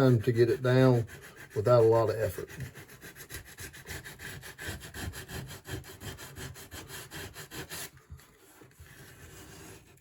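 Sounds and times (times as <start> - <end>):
sandpaper rubbing by hand: 0.0 - 10.0.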